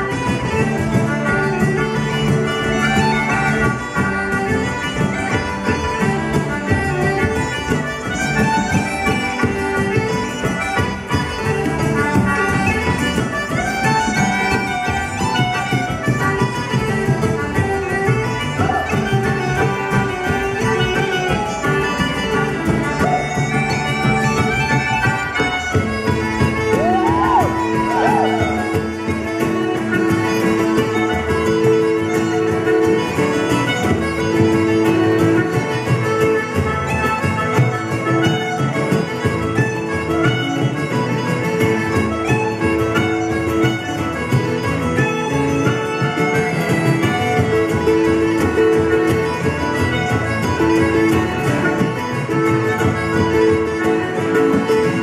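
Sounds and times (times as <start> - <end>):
concertina: 0.0 - 55.0
frame drum rhythm: 0.0 - 55.0
guitar: 0.0 - 55.0.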